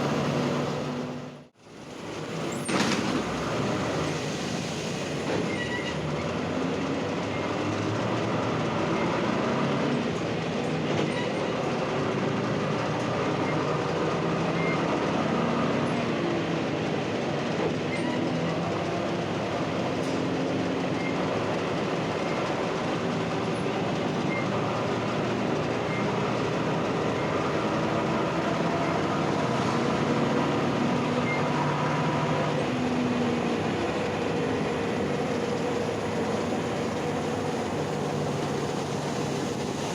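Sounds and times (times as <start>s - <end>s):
bus diesel engine running: 0.0s - 39.9s
road and body rumble: 0.0s - 39.9s.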